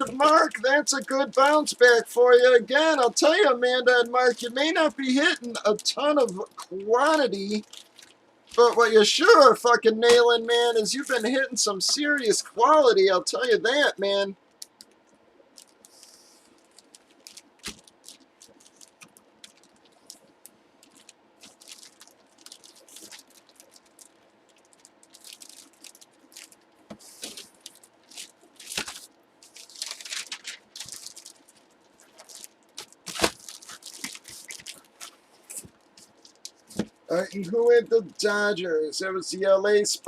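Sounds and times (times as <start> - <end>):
plastic wrappers crinkling: 0.0 - 12.4, 14.5 - 37.1.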